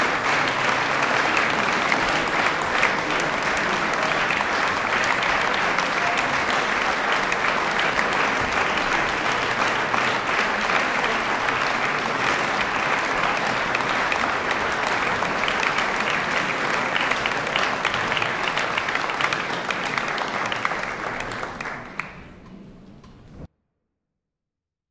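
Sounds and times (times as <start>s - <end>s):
audience applauding: 0.0s - 23.5s.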